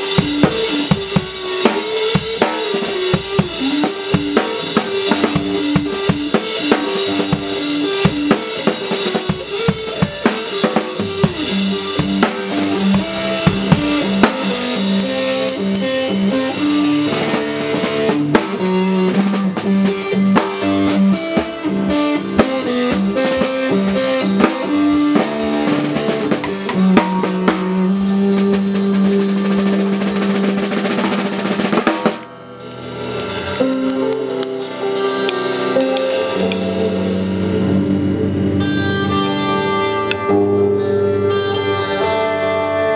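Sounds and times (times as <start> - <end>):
drum kit with snare hits: 0.0 - 36.8
guitar and bass notes: 0.0 - 42.9.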